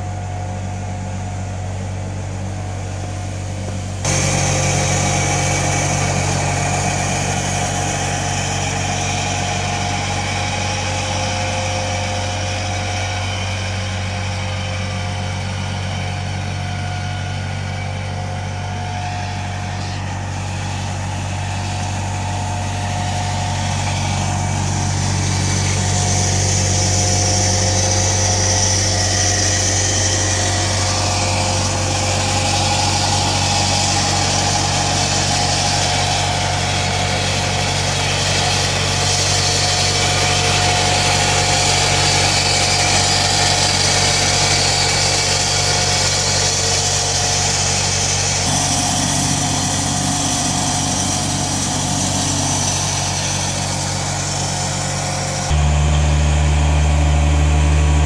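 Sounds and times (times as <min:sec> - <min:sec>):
street sweeper engine hum: 0:00.0 - 0:58.0.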